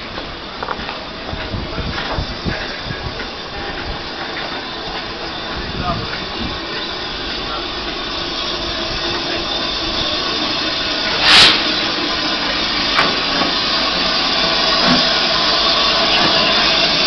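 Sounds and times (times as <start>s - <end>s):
loud rush of steam: 0.0s - 17.0s
steam hissing from locomotive: 0.0s - 17.0s.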